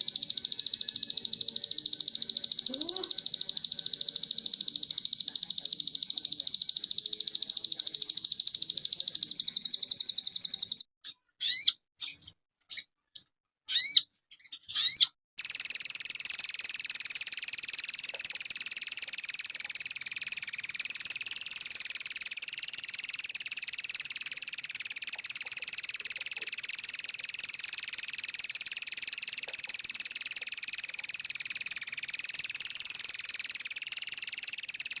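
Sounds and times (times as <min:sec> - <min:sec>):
bird shrill trill: 0:00.0 - 0:12.9, 0:13.7 - 0:30.3
sharp sweeping bird chirps: 0:00.0 - 0:12.9, 0:13.7 - 0:35.0.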